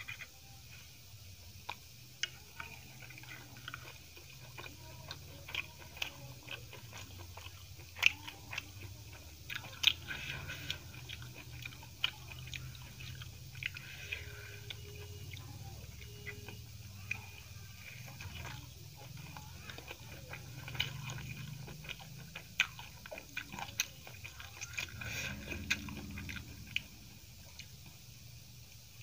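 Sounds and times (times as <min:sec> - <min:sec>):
person chewing food: 0:00.0 - 0:29.0
steady low hum: 0:00.0 - 0:29.0.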